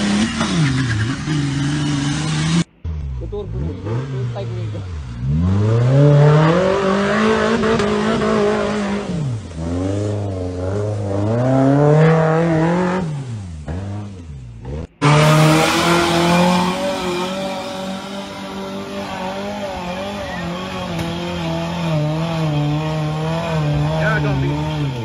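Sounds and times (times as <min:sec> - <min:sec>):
off-road engine revving: 0:00.0 - 0:25.0
truck engine at high revs: 0:00.0 - 0:25.0.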